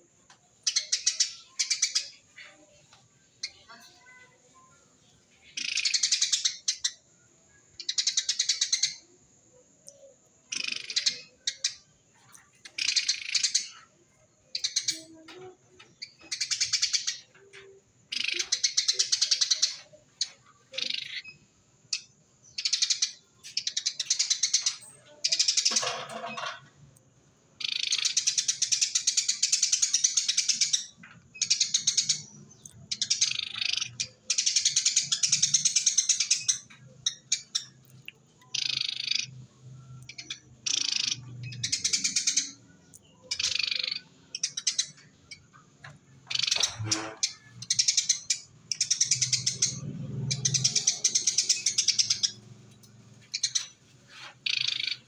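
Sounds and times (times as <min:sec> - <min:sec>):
sparrow chattering: 0:00.1 - 0:26.7, 0:27.6 - 0:55.0.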